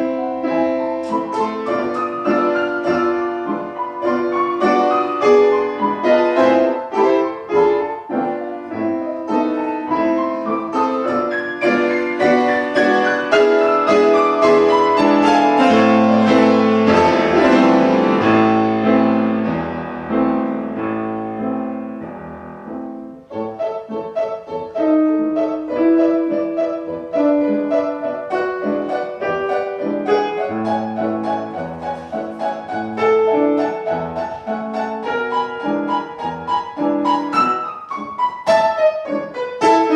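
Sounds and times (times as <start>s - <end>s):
piano playing classical piece: 0.0s - 39.9s.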